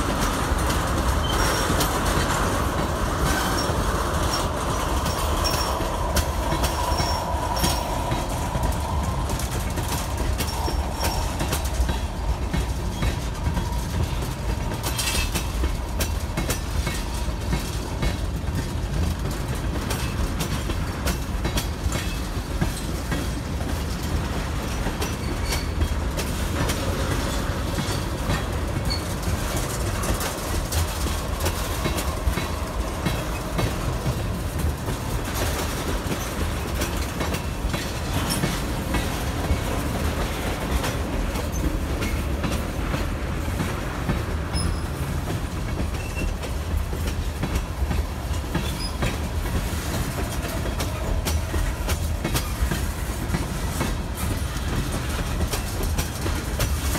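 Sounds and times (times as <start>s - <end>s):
train low rumble: 0.0s - 56.9s
train wheels clacking on rails: 0.0s - 56.9s.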